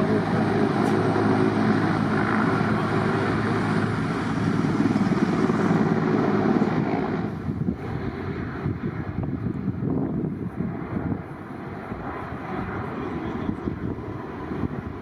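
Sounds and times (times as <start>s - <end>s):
aircraft engines running: 0.0s - 15.0s.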